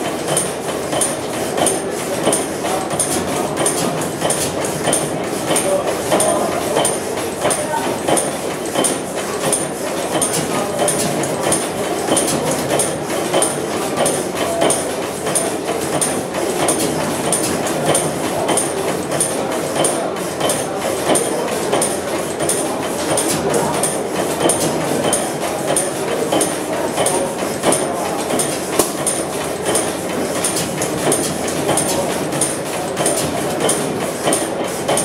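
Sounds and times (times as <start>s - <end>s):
stationary gas engine clatter: 0.0s - 35.0s.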